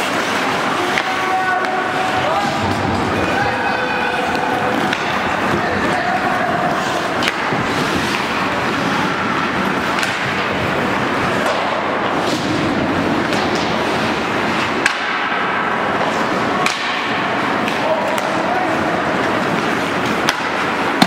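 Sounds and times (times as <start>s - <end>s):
hockey sticks striking puck: 0.0s - 21.0s
reverberant rink din: 0.0s - 21.0s
skates scraping on ice: 0.0s - 21.0s.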